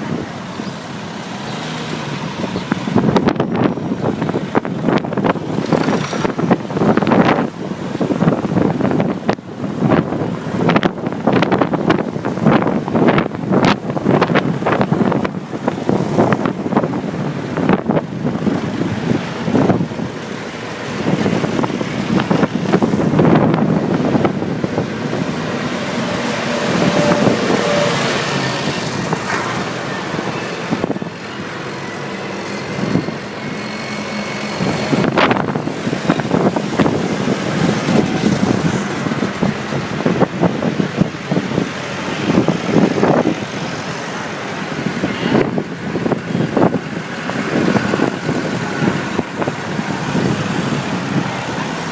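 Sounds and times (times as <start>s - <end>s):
tractor engines rumbling: 0.0s - 51.9s.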